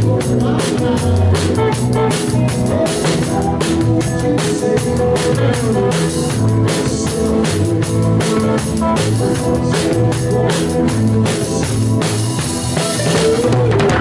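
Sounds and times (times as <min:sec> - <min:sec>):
drum kit beating: 0:00.0 - 0:14.0
rock band playing: 0:00.0 - 0:14.0.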